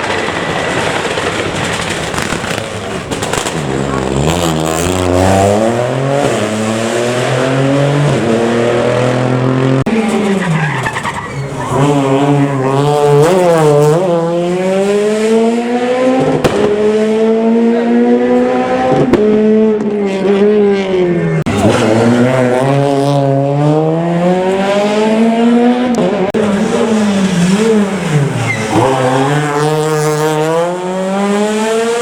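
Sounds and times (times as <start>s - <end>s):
rally car engine accelerating: 0.0s - 32.0s.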